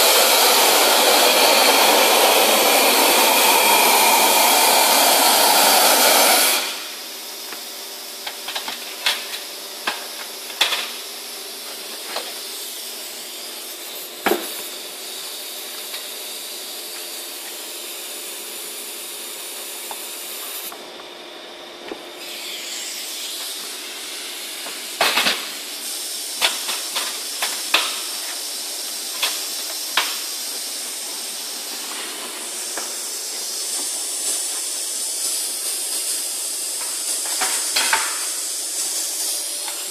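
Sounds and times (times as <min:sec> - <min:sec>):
air hissing: 0:00.0 - 0:08.0, 0:09.3 - 0:20.8, 0:22.0 - 0:39.9
vacuum cleaner running: 0:00.0 - 0:39.9.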